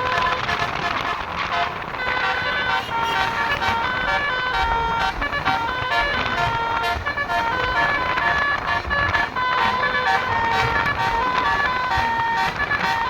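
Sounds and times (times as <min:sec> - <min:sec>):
bus horn playing a fast tune: 0:00.0 - 0:13.0.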